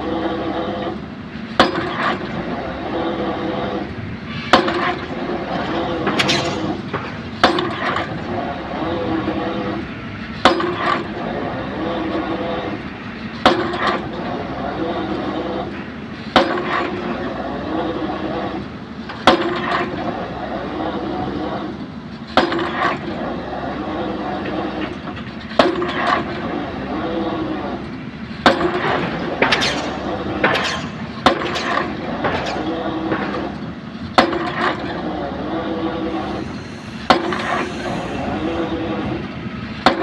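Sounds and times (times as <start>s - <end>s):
excavator engine running: 0.0s - 40.0s.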